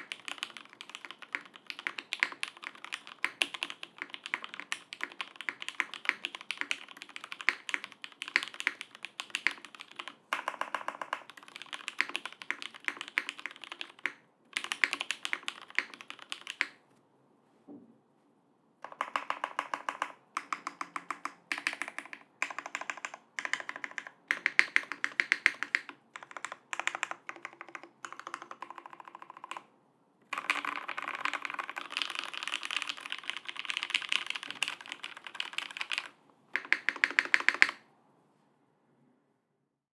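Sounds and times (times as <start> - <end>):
fast keyboard typing: 0.0 - 16.8, 18.8 - 29.7, 30.3 - 37.8.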